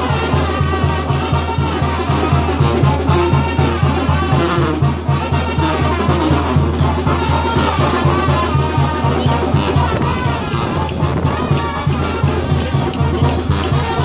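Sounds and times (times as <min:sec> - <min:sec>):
brass-led dance music: 0:00.0 - 0:14.0.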